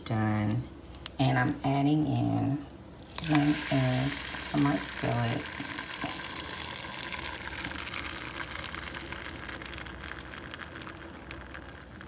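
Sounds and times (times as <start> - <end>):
egg sizzling in a skillet: 0.4 - 12.0.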